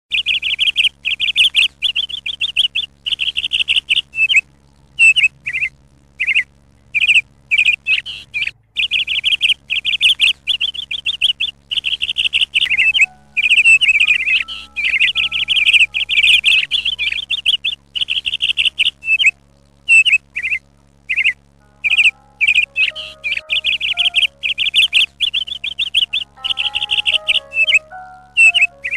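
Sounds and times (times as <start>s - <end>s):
bird chirps: 0.1s - 4.4s, 5.0s - 28.9s
bird singing trills: 0.1s - 4.4s, 5.0s - 28.9s.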